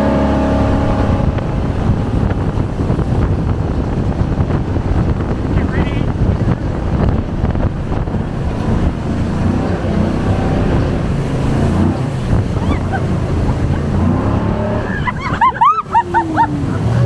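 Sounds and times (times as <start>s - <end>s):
boat engine rumble: 0.0s - 17.0s
rushing water: 0.0s - 17.0s
wind buffeting microphone: 0.0s - 17.0s.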